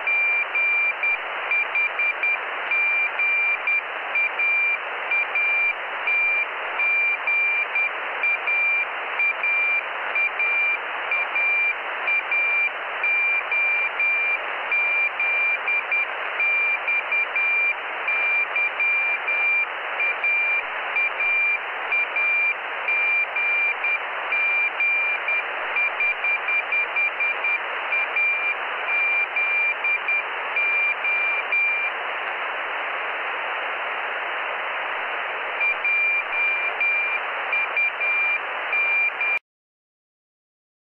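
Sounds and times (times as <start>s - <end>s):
radio receiver hiss: 0.0s - 39.4s.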